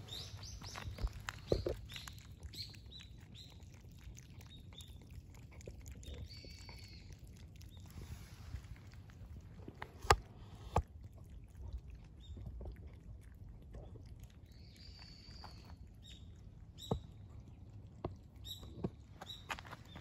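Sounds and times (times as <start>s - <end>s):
cats lapping milk: 0.0s - 20.0s.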